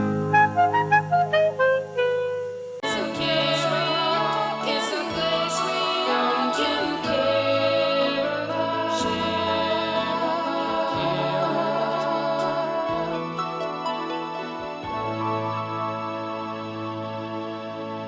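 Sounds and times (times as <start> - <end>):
descending run of notes: 0.0 - 18.0
orchestral and choral fanfare: 2.8 - 17.5.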